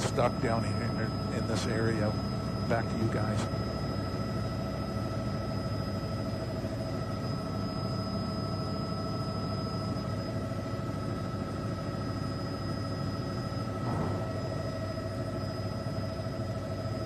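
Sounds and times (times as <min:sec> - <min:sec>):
helicopter cabin drone: 0:00.0 - 0:17.0
steady whining tones: 0:00.0 - 0:17.0.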